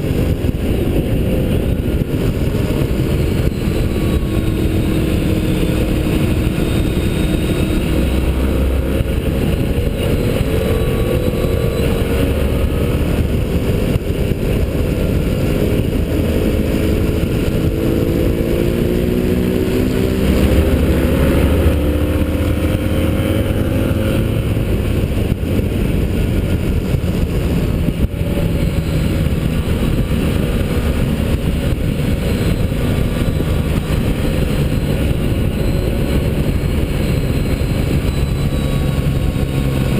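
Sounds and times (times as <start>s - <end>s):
motorcycle engine at speed: 0.0s - 39.9s
wind noise: 0.0s - 39.9s.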